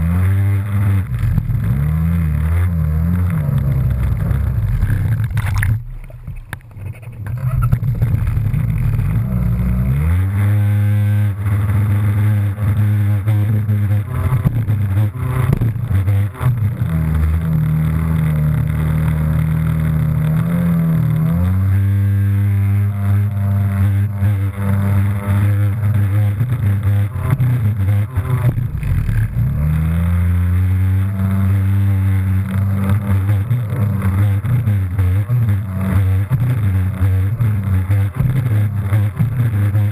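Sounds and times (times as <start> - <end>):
jet ski engine: 0.0 - 39.9.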